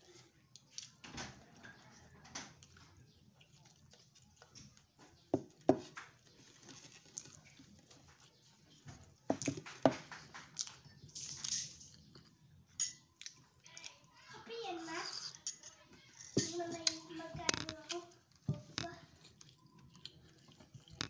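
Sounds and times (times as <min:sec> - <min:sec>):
chewing: 0:00.0 - 0:14.2, 0:16.8 - 0:21.0.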